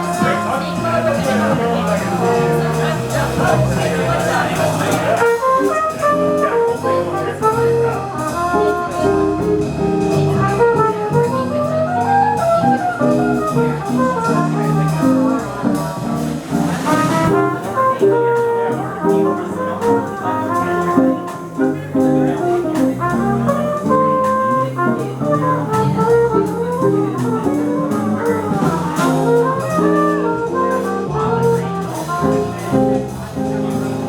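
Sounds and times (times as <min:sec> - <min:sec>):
horn melody: 0:00.0 - 0:34.0
jazz quartet playing: 0:00.0 - 0:34.0.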